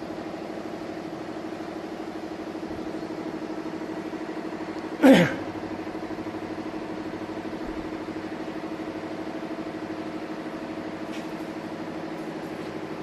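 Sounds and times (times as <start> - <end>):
workshop machinery drone: 0.0 - 13.0.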